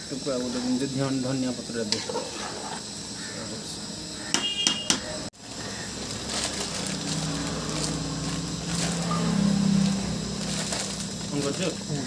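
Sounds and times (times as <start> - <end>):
curry sizzling in pot: 0.0 - 4.6, 5.3 - 12.0.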